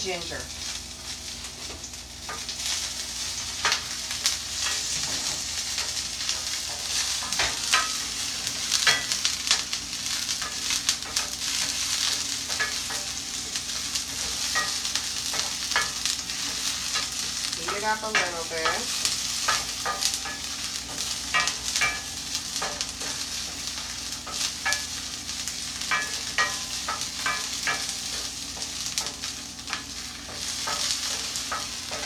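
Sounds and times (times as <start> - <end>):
vegetables sizzling in hot oil: 0.0 - 32.0.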